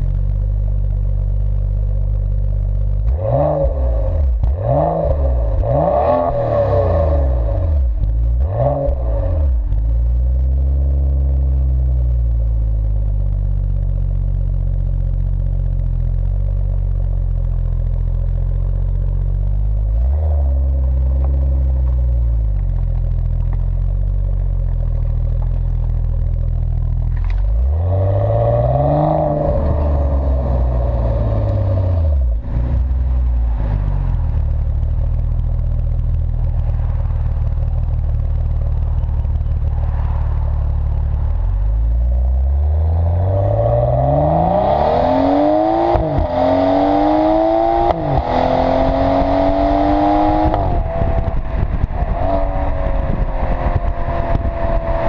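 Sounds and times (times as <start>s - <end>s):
car exhaust revving: 0.0s - 55.0s
wind and road noise: 0.0s - 55.0s.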